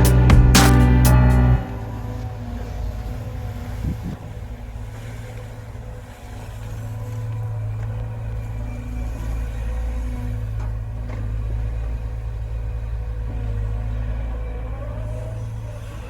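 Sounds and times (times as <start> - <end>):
heavy diesel engine droning: 0.0 - 16.0.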